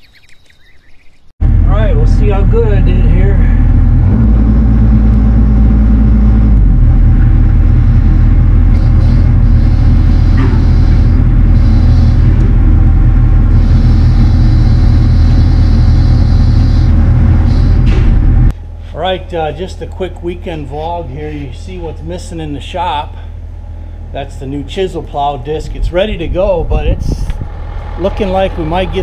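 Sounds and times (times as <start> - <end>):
diesel engine running: 1.4 - 29.0.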